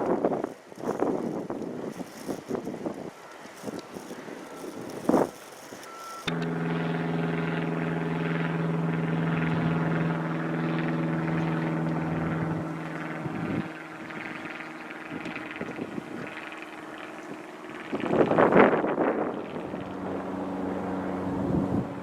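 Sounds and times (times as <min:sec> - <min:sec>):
motor running steadily: 0:00.0 - 0:22.0.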